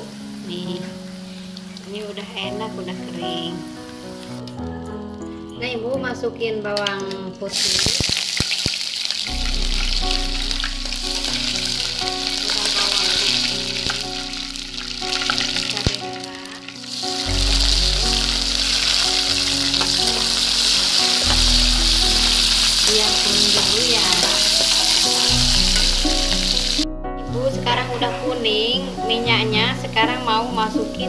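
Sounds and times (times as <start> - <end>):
garlic and onion sizzling in a wok: 0.0 - 4.4, 7.5 - 26.8, 27.8 - 31.0
background music: 0.0 - 31.0.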